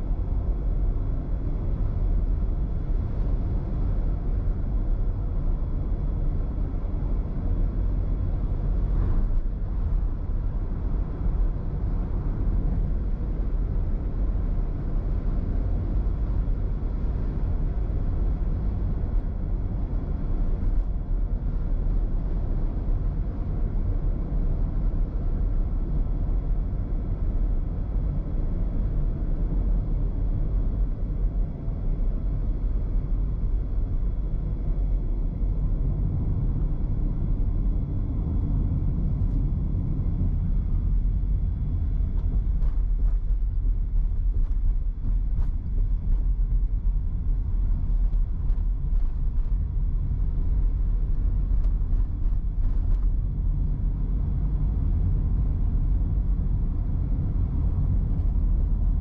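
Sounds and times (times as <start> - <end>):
car road rumble: 0.0 - 59.0.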